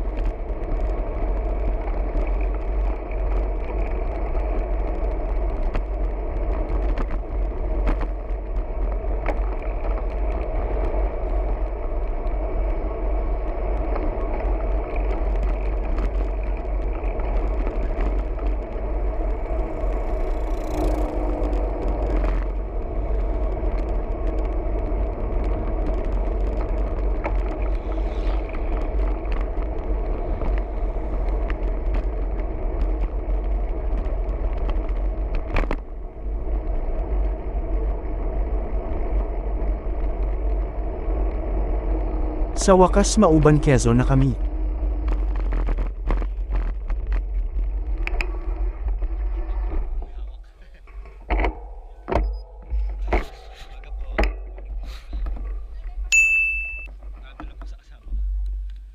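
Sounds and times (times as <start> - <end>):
wind buffeting: 0.0 - 56.2
road rumble: 0.0 - 58.9.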